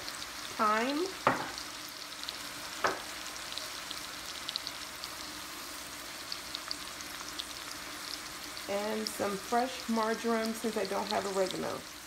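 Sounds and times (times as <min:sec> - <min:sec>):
meatballs sizzling in oil: 0:00.0 - 0:12.0.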